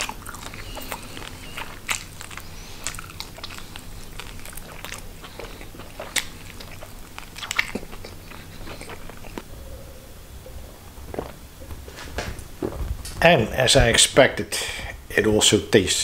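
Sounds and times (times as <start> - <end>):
person chewing fish: 0.0 - 13.2.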